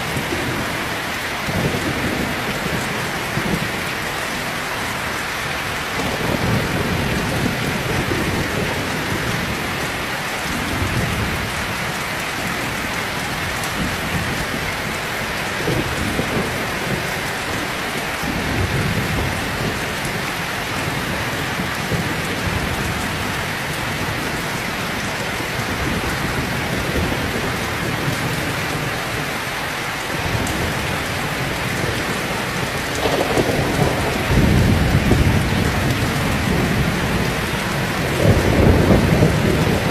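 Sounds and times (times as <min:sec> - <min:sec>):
thunder rumbles: 0:00.0 - 0:29.3, 0:30.1 - 0:39.9
heavy rain: 0:00.0 - 0:39.9.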